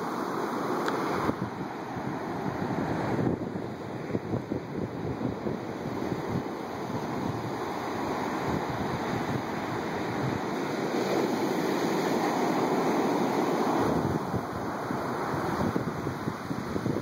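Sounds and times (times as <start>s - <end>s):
surf breaking on beach: 0.0s - 17.0s
wind rumbling on microphone: 0.0s - 17.0s.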